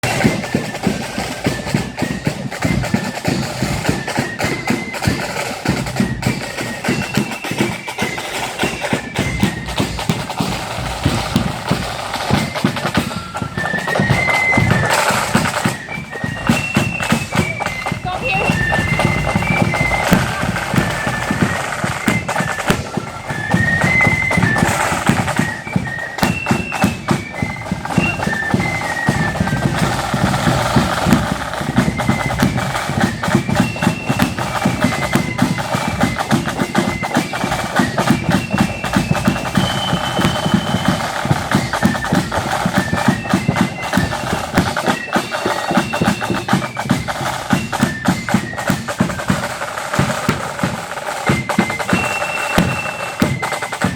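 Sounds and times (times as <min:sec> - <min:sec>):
bass and snare drums beat: 0:00.0 - 0:53.9
high-pitched wind melody: 0:00.0 - 0:53.9.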